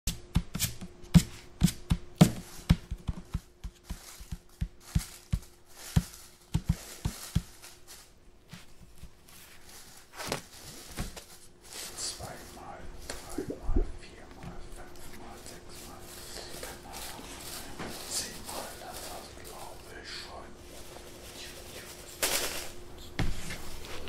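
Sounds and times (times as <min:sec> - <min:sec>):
faint steady hum: 0:00.1 - 0:24.0.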